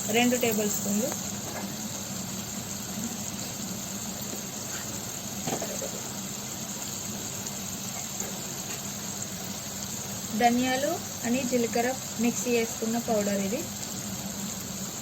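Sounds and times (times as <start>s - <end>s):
curry simmering in a pan: 0.0s - 15.0s.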